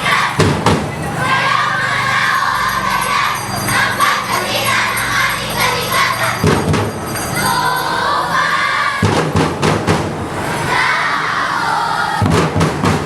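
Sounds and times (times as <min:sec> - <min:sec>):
loud crowd: 0:00.0 - 0:13.0.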